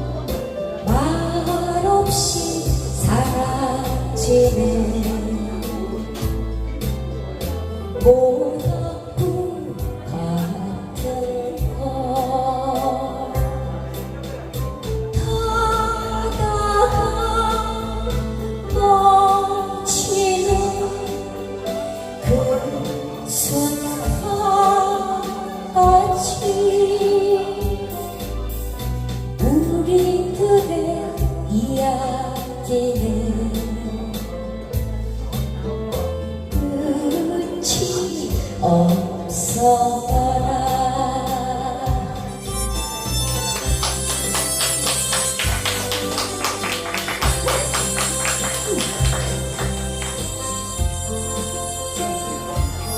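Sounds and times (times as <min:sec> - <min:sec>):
bass accompaniment: 0:00.0 - 0:52.9
person singing ballad: 0:00.0 - 0:52.9.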